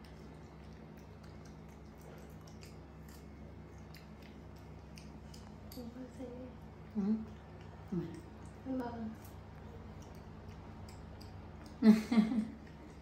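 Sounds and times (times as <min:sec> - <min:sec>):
low room hum: 0:00.0 - 0:13.0
monkey chewing wet smacking: 0:00.0 - 0:13.0.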